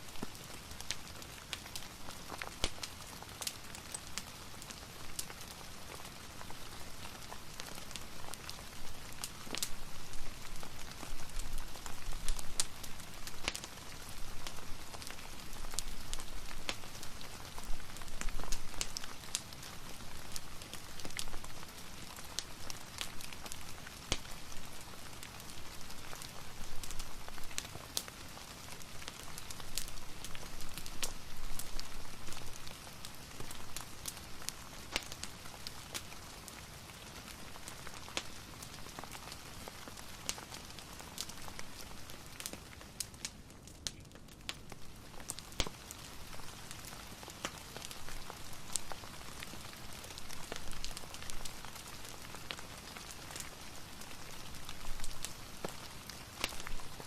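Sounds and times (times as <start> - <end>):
fireplace crackling: 0.0 - 57.0
steady rain hiss: 0.0 - 57.0.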